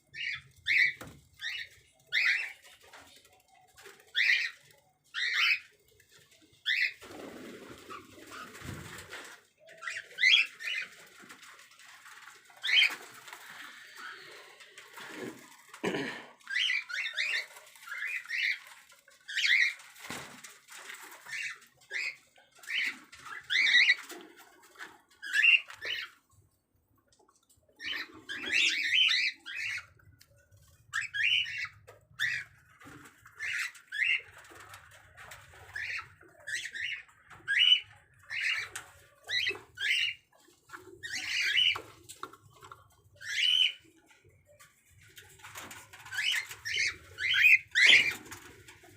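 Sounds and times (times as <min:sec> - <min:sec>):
cockatiels chirping and squawking: 0:00.1 - 0:03.2, 0:03.9 - 0:05.8, 0:06.6 - 0:07.0, 0:07.8 - 0:15.7, 0:16.5 - 0:20.0, 0:20.9 - 0:24.2, 0:25.2 - 0:26.3, 0:27.8 - 0:43.9, 0:45.3 - 0:48.5.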